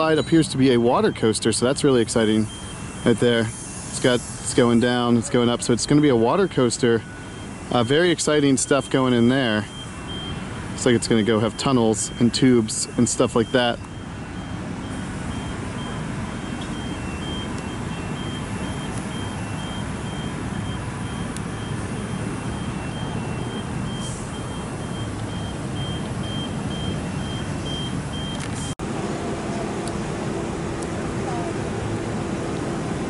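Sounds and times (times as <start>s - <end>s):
reversing alarm beeping: 0.0s - 28.8s.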